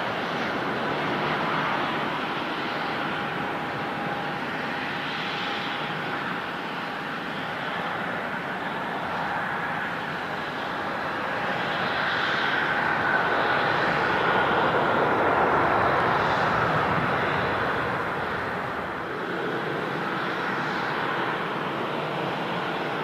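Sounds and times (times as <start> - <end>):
jet engines roaring and whining: 0.0 - 23.0.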